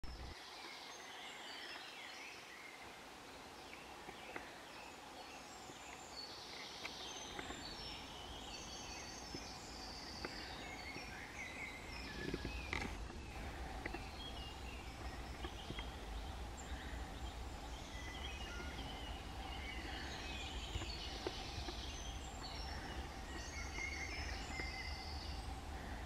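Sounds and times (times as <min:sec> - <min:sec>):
birds singing: 0:00.0 - 0:26.0.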